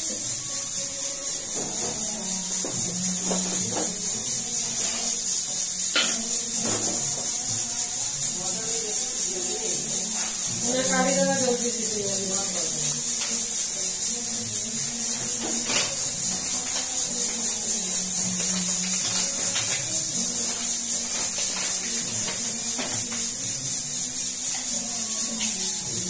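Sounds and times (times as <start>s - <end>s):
exhaust fan humming and hissing: 0.0s - 26.0s.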